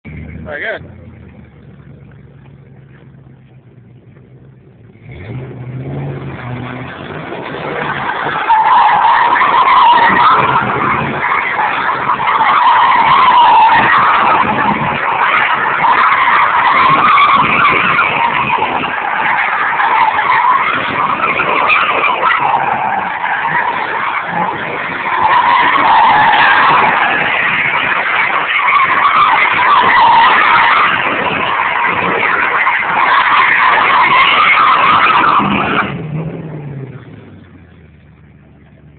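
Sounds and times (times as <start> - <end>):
car engine: 0.0 - 38.9.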